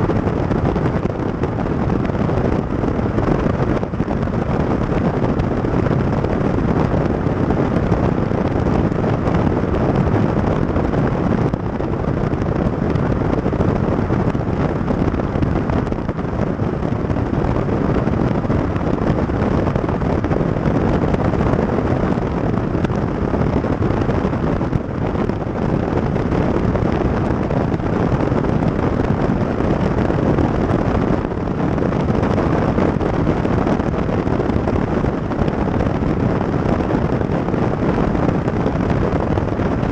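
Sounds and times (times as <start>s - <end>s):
road and tyre noise: 0.0s - 39.9s
wind buffeting microphone: 0.0s - 39.9s.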